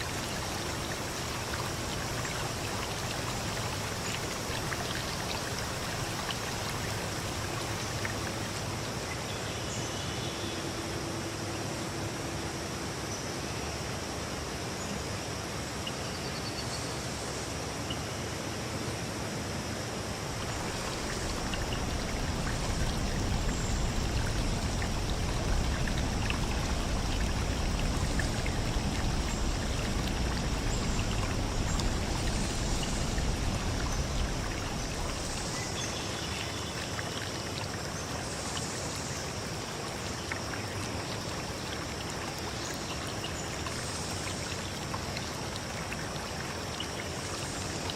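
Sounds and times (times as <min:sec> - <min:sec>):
stream flowing: 0:00.0 - 0:47.9.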